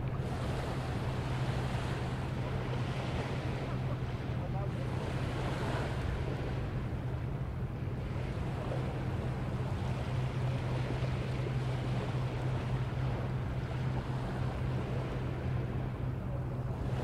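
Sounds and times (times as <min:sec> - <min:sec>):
small waves washing on beach: 0:00.0 - 0:17.0
steady low hum: 0:00.0 - 0:17.0.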